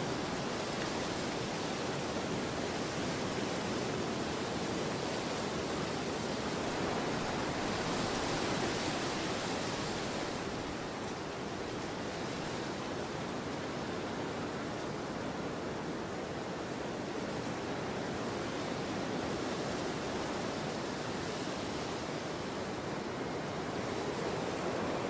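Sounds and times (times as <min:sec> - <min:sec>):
wind blowing steadily: 0:00.0 - 0:25.0.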